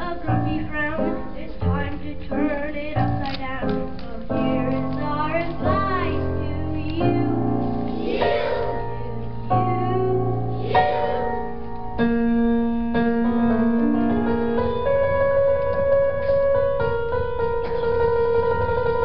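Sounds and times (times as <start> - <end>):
piano-like keyboard chords: 0.0 - 19.0.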